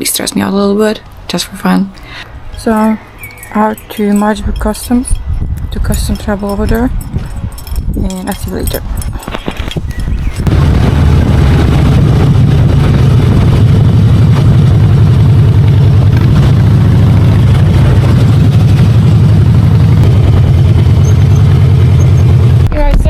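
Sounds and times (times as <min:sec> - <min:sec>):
motorcycle engine running: 0:02.7 - 0:23.0.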